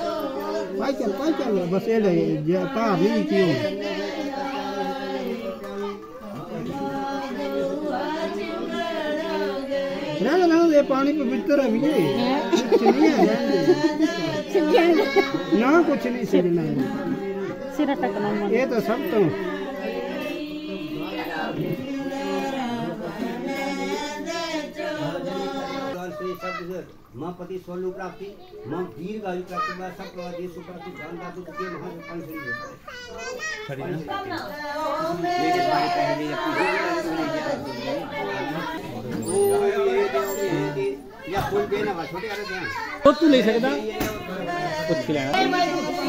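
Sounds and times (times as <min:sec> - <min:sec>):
voices chanting together: 0:00.0 - 0:27.0, 0:33.9 - 0:46.0.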